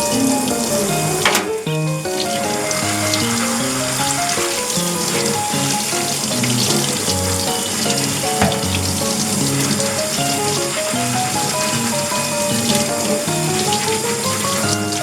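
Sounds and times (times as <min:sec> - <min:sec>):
light background melody: 0:00.0 - 0:15.0
tap water splashing into sink: 0:00.0 - 0:15.0.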